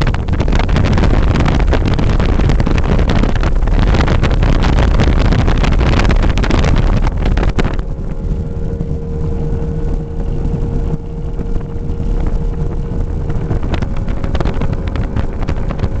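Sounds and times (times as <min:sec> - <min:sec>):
speedboat engine: 0:00.0 - 0:16.0
water rushing: 0:00.0 - 0:16.0
wind rushing: 0:00.0 - 0:16.0.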